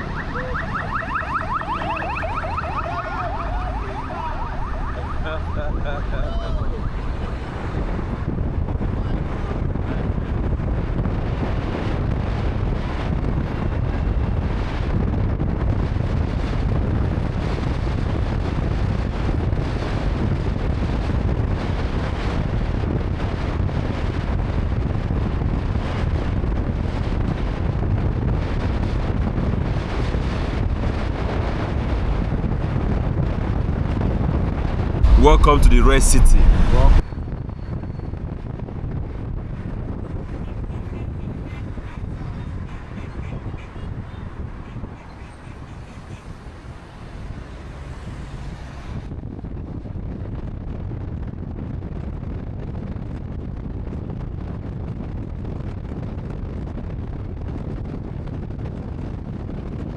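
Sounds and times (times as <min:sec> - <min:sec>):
wind buffeting microphone: 0:00.0 - 0:35.2, 0:36.4 - 0:59.9
car road and wind noise: 0:00.0 - 0:59.9.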